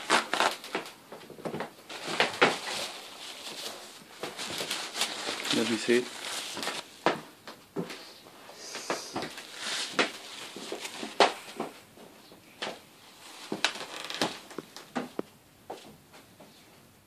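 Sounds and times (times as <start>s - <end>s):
faint room noise: 0.0s - 17.0s.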